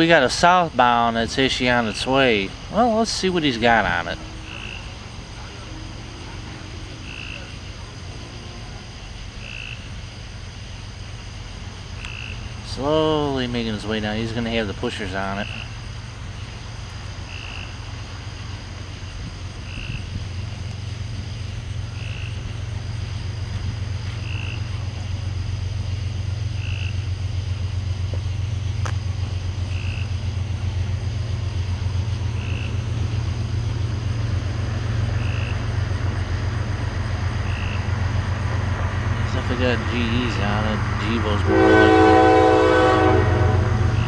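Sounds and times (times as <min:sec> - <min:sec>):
diesel locomotive rumble: 0:00.0 - 0:44.0
frog calling: 0:00.0 - 0:44.0
insects droning: 0:00.0 - 0:44.0.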